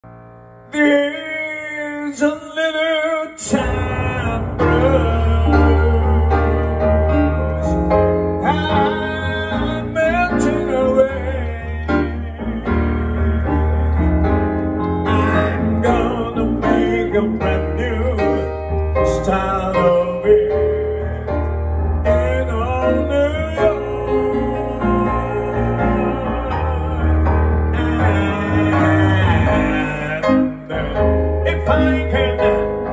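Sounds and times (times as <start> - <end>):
man singing into microphone: 0.7 - 14.3, 15.0 - 32.9
band playing with bass line: 3.4 - 32.9.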